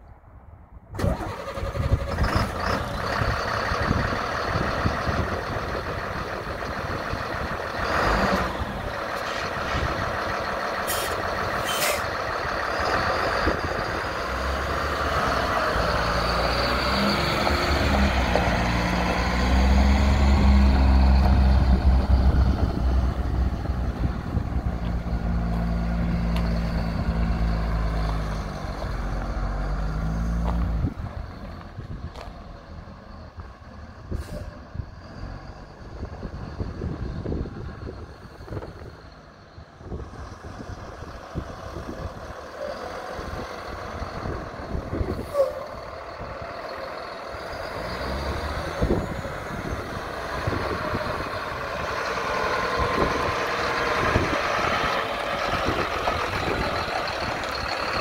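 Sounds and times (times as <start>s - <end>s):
diesel bus engine running: 0.9s - 58.0s.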